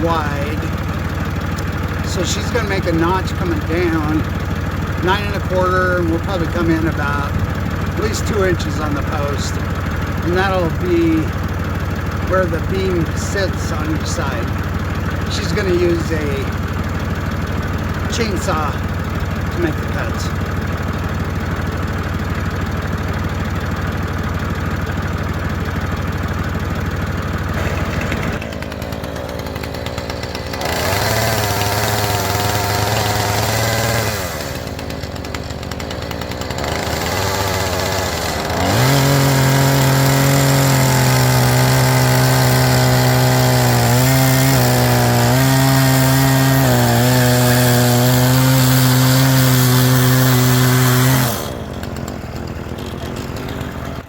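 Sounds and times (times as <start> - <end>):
chainsaw cutting wood: 0.0 - 54.0
tractor engine idling: 0.0 - 54.0.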